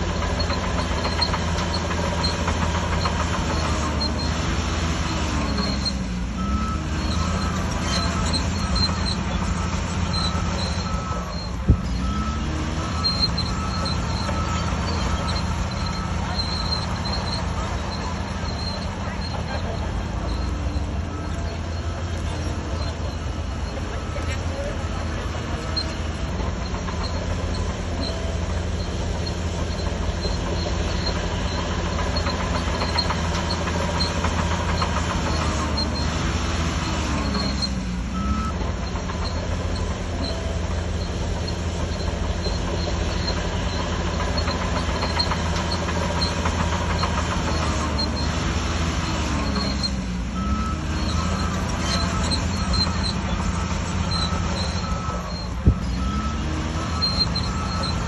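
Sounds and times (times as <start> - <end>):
bulldozer diesel engine under load: 0.0 - 58.0
steel tracks clattering and squeaking: 0.0 - 58.0.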